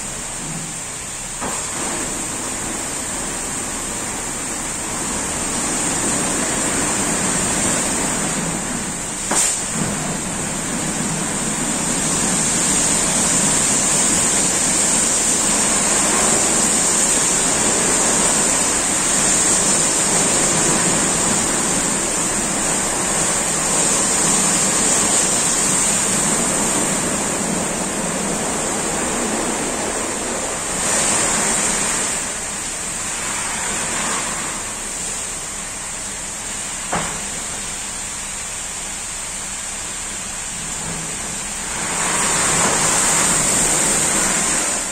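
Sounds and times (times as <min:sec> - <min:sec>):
low machinery hum: 0:00.0 - 0:44.9
water jets spraying car: 0:00.0 - 0:44.9.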